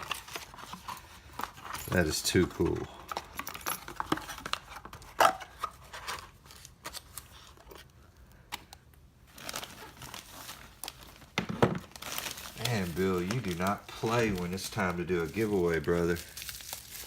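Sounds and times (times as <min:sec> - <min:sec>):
packaging rustling and crinkling: 0:00.0 - 0:08.0, 0:09.3 - 0:17.0.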